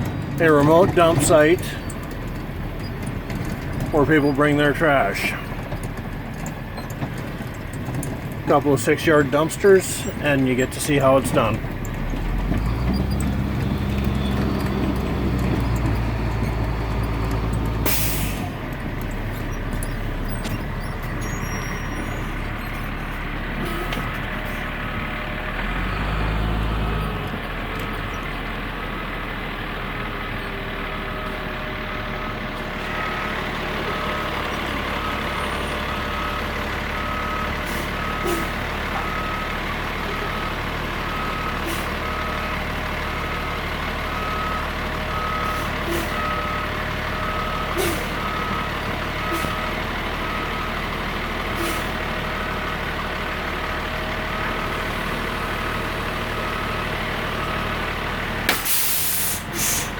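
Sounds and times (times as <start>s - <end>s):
diesel engine running: 0.0s - 59.9s
truck backup alarm beeping: 0.0s - 59.9s.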